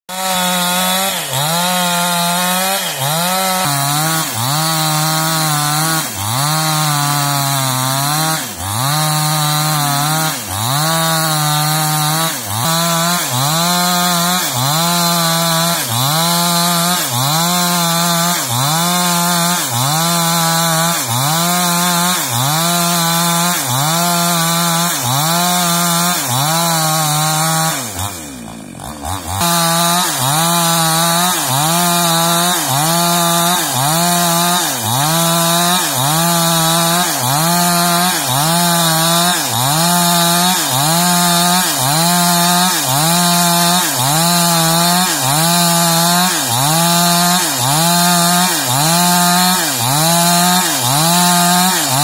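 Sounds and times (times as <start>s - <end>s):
chainsaw cutting timber: 0.0s - 52.0s.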